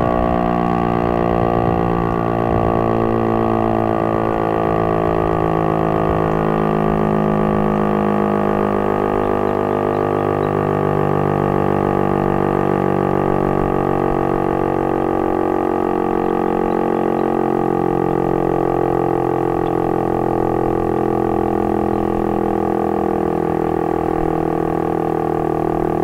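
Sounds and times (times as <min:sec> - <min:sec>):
tornado siren steady tone: 0:00.0 - 0:26.0.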